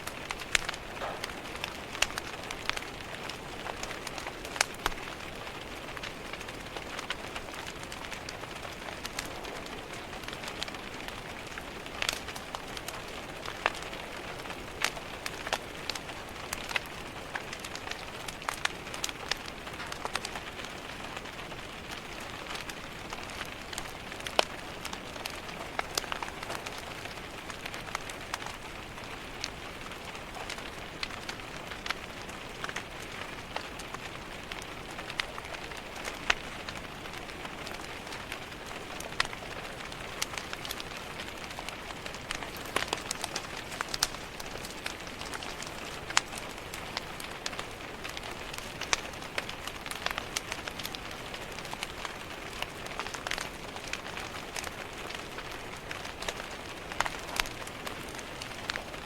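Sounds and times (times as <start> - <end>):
rain pattering on window: 0.0 - 59.0
wood fire crackling: 0.0 - 59.0.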